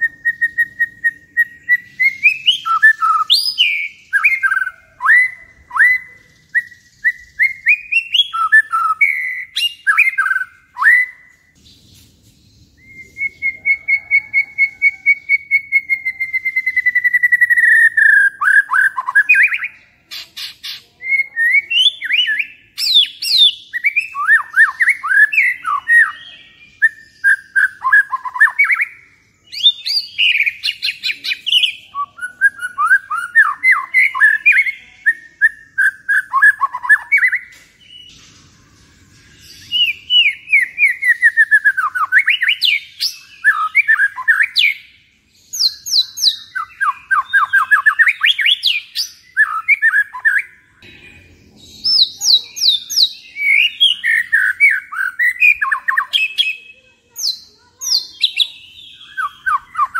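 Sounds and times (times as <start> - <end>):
bird singing trills and whistles: 0.0 - 59.9.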